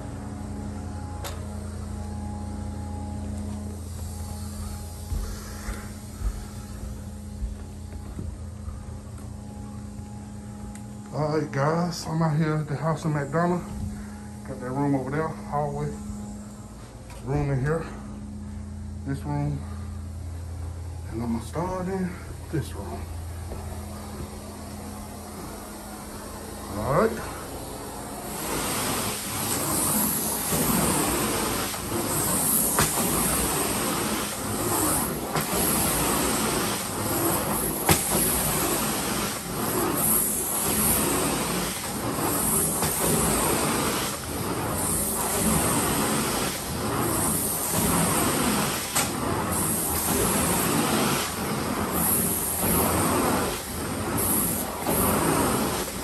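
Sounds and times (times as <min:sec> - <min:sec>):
carpet-cleaning machine humming: 0:00.0 - 0:56.0.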